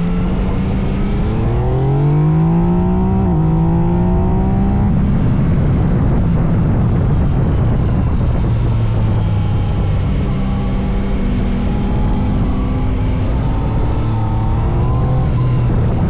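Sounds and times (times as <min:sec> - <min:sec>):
heavy rushing noise: 0:00.0 - 0:16.0
motorcycle engine running: 0:00.0 - 0:16.0.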